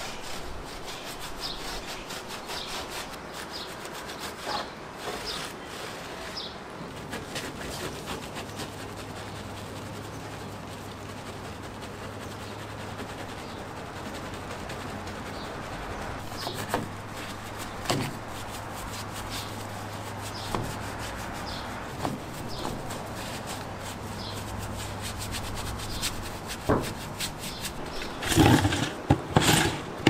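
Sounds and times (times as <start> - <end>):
brush scrubbing through soap foam: 0.0 - 30.0.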